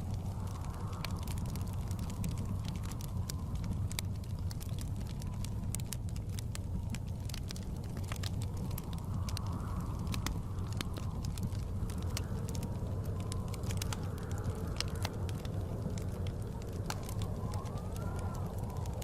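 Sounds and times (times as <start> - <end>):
low rumble of blizzard wind: 0.0 - 19.0
wind whistling: 0.0 - 19.0
wood fire crackling and popping: 0.0 - 19.0.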